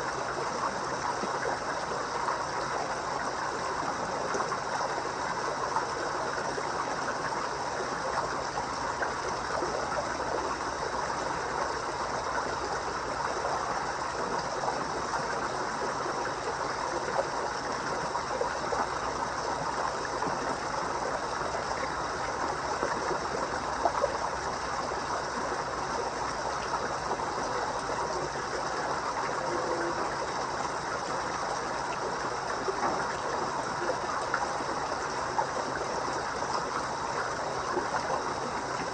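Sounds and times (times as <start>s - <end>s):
pond water running and splashing: 0.0s - 38.9s.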